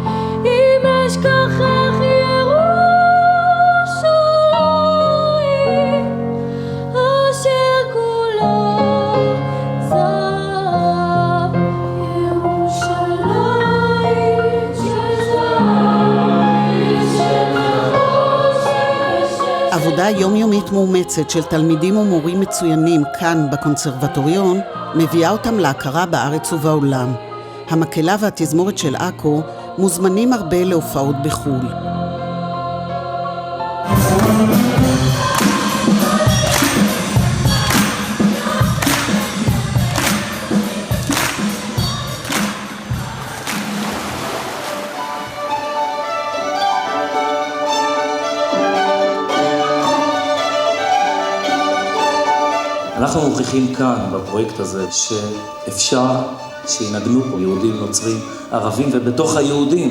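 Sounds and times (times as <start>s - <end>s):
choir singing: 0.0s - 6.3s, 6.9s - 59.9s.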